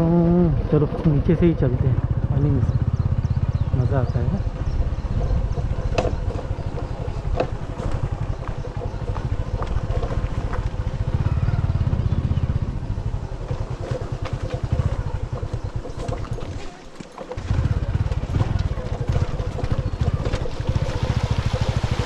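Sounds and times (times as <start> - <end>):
small motorcycle engine running: 0.0 - 22.0.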